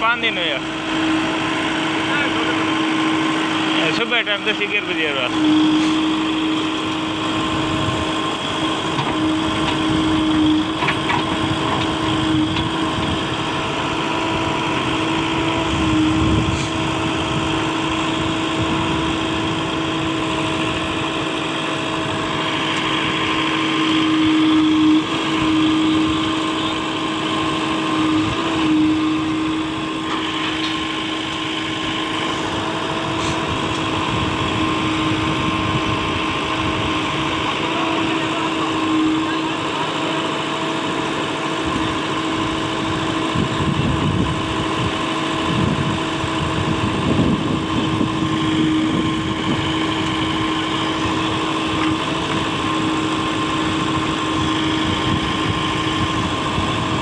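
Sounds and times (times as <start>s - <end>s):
constant whine: 0.0s - 57.0s
diesel engine running: 0.0s - 57.0s.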